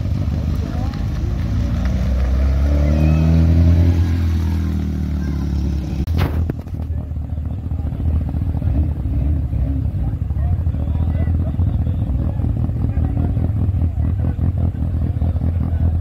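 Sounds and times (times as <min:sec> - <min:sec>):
car engine driving past: 0:00.0 - 0:16.0
voices: 0:00.0 - 0:16.0.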